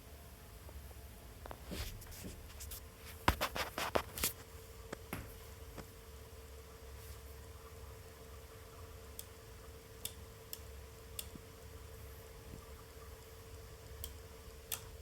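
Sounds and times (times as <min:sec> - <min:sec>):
steady fan hum: 0:00.0 - 0:15.0.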